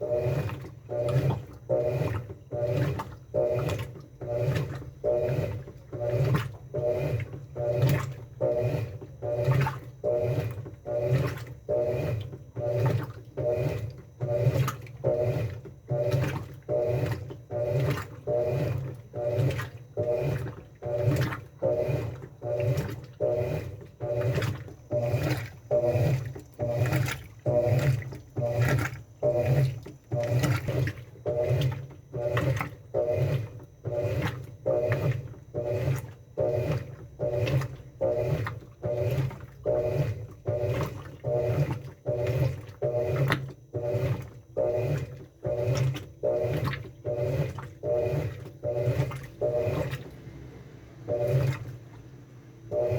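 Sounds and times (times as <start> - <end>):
washing machine agitator churning: 0.0 - 52.9.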